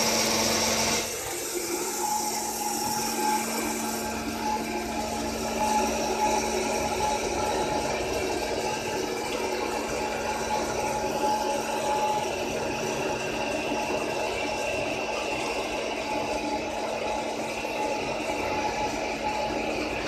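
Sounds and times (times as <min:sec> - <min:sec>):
popcorn machine humming: 0:00.0 - 0:20.0.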